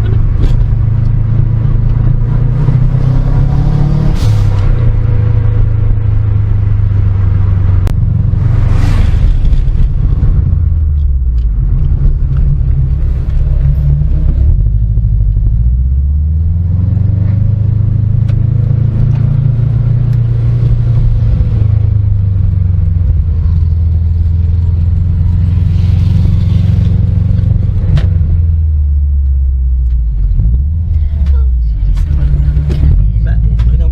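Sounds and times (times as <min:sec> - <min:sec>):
car engine running at low revs: 0:00.0 - 0:33.9.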